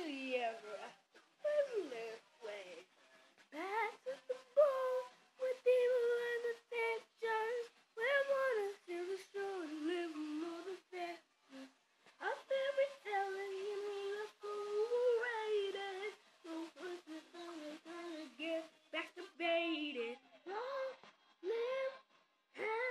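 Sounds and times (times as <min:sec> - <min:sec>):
child singing: 0:00.0 - 0:02.8, 0:03.5 - 0:22.9.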